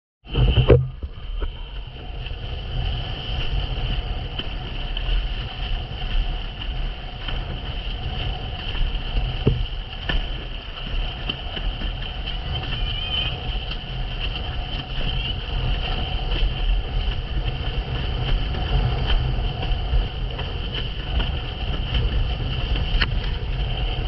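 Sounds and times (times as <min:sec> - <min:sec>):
wind buffeting microphone: 0:00.2 - 0:24.0
steady high whine: 0:00.3 - 0:24.0
water rushing and splashing: 0:00.3 - 0:24.0.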